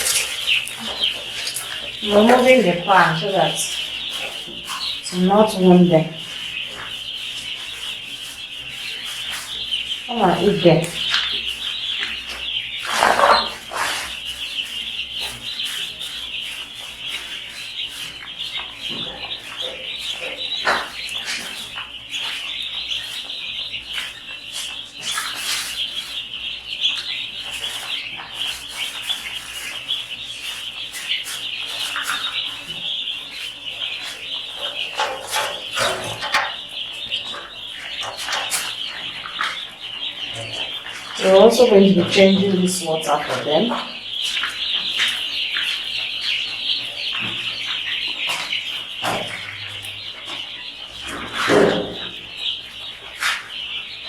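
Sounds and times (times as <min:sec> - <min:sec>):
chicks peeping: 0:00.0 - 0:54.0
scratching and rustling: 0:00.0 - 0:54.0.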